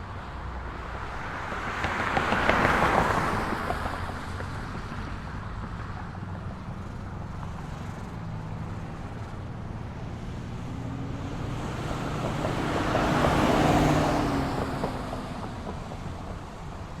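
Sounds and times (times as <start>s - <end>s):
car passing by: 0.0s - 9.4s, 10.0s - 17.0s
distant road traffic hum: 0.0s - 17.0s.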